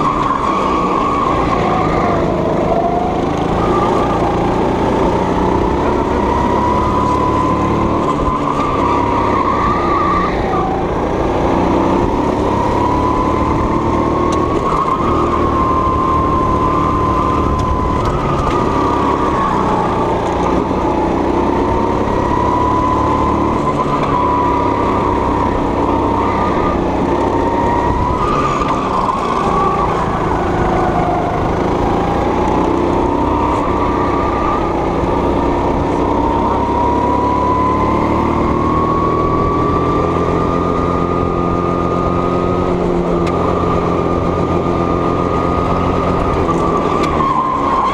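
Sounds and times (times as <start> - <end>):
go-kart engine running: 0.0 - 47.9.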